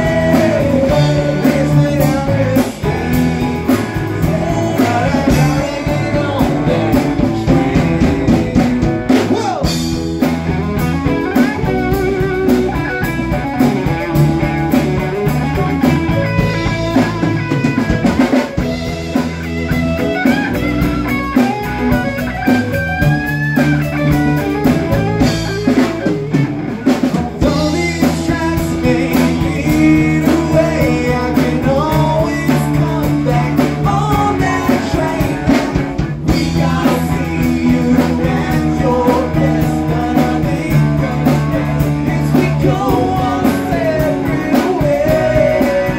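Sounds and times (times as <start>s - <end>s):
bass guitar: 0.0s - 45.9s
drum kit: 0.0s - 45.9s
electric guitar: 0.0s - 45.9s.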